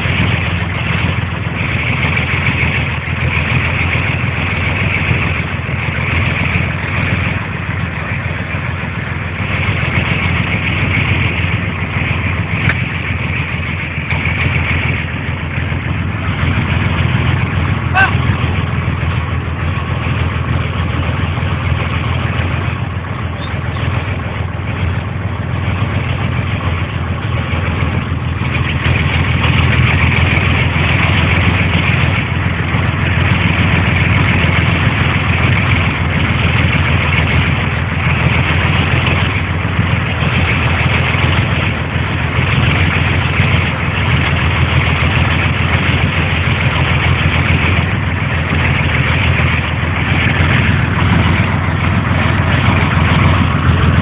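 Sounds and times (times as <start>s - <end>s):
heavy vehicle engine running: 0.0s - 54.0s
higher pulsing noise: 0.0s - 54.0s.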